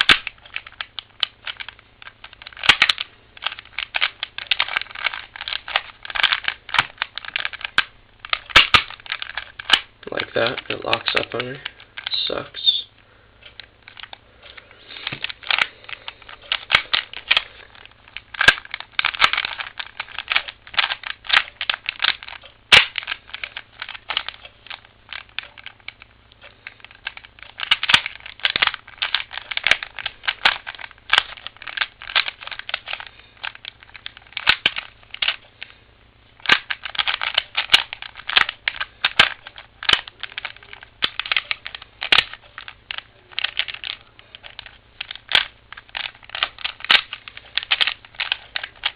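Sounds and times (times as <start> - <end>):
puzzle cube clicking: 0.0 - 12.5, 13.5 - 35.8, 36.4 - 48.9.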